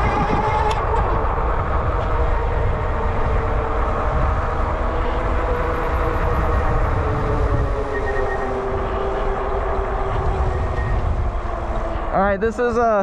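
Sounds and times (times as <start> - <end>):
electric hub motor whine: 0.0 - 13.0
road noise rumble: 0.0 - 13.0
wind buffeting microphone: 0.0 - 13.0.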